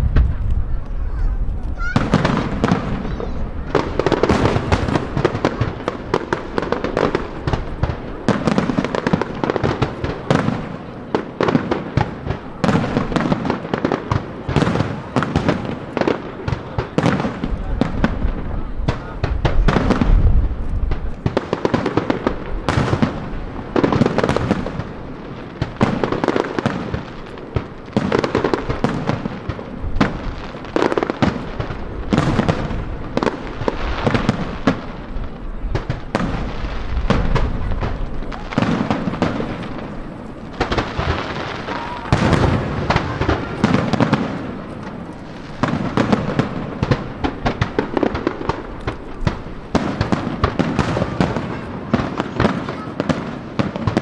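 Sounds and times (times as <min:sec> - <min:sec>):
fireworks banging: 0:00.0 - 0:54.0.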